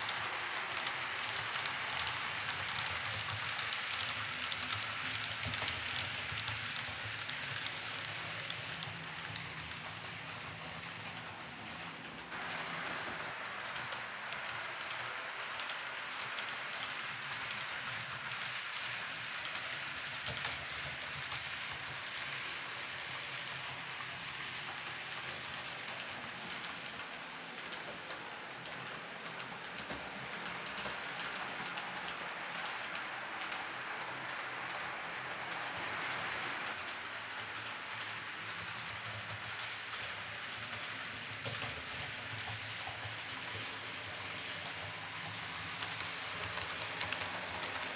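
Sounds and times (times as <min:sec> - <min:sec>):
model train wheels rattling: 0:00.0 - 0:47.9.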